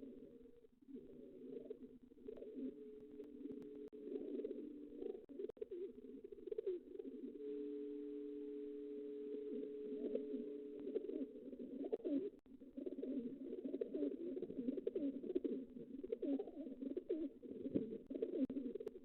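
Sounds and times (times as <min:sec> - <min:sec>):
pigeons cooing: 0:00.9 - 0:07.7, 0:09.4 - 0:19.0.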